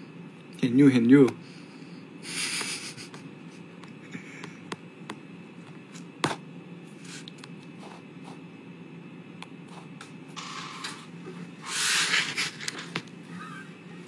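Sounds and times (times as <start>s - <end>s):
low steady background noise: 0.0s - 11.7s.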